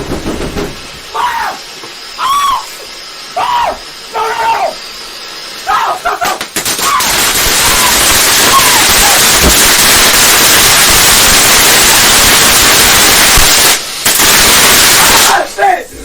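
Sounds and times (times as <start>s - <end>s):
firework fountain hissing: 0.0s - 16.0s.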